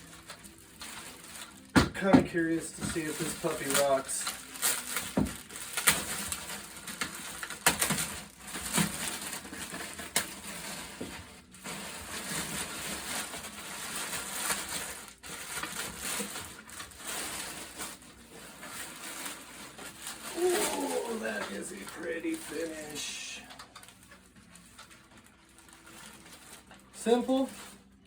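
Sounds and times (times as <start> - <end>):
plastic wrapping crinkling: 0.0 - 28.0.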